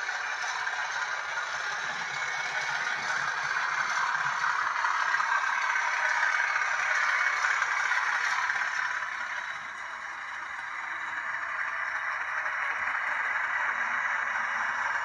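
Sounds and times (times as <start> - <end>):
diesel engine sound from small speaker: 0.0 - 15.0.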